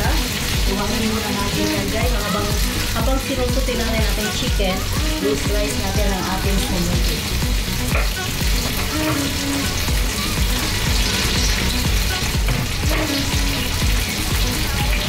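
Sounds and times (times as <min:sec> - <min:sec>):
background music with low beat: 0:00.0 - 0:15.0
chicken sizzling in oil: 0:00.0 - 0:15.0.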